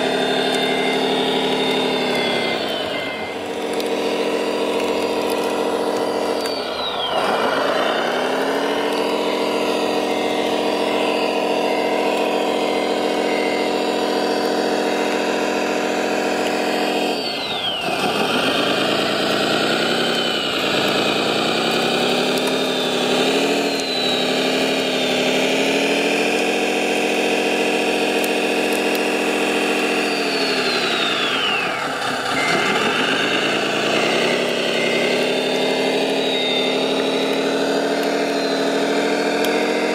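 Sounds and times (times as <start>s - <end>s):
high falling whistle: 0.0s - 26.2s, 29.1s - 39.9s
model bulldozer engine drone: 0.0s - 39.9s.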